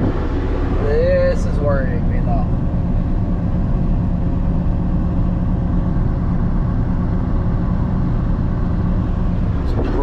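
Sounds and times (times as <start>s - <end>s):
forage harvester engine drone: 0.0s - 10.0s.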